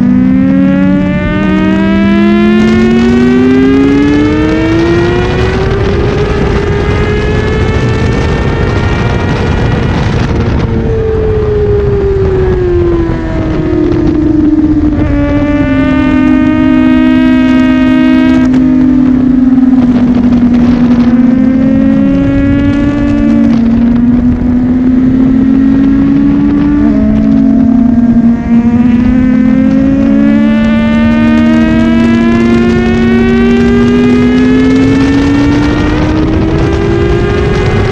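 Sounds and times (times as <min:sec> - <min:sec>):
motorcycle engine at high revs: 0:00.0 - 0:37.9
wind rush: 0:00.0 - 0:37.9.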